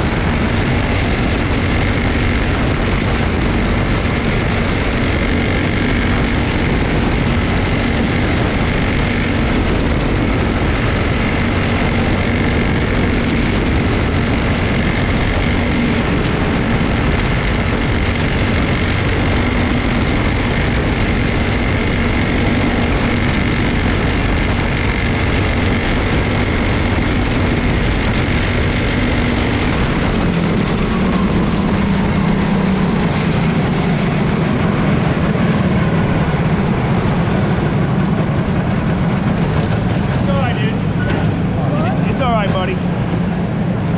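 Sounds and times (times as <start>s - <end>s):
small race car engines droning: 0.0s - 43.9s.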